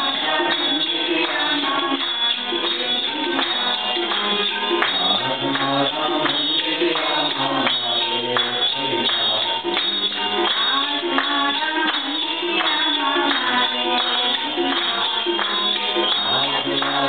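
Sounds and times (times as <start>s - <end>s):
group singing: 0.0s - 17.0s
hand claps: 0.0s - 17.0s
hand percussion: 0.0s - 17.0s
harmonium: 0.0s - 17.0s.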